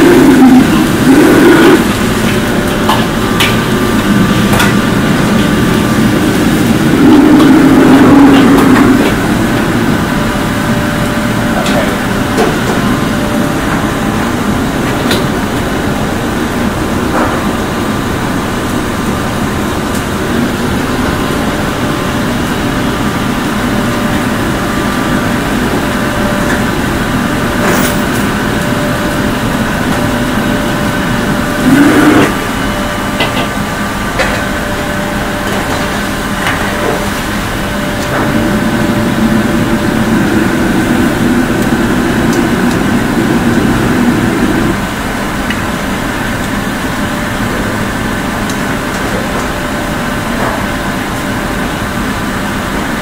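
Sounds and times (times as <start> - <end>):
gas wok range roaring: 0.0 - 53.0.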